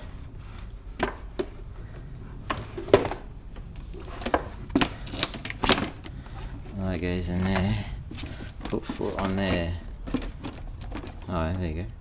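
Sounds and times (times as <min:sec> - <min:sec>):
plastic parts knocking and clicking: 0:01.0 - 0:12.0.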